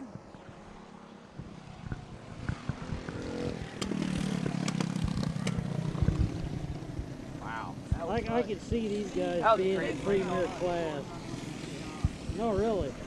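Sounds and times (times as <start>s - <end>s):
mini bike engines running: 0.0s - 13.0s.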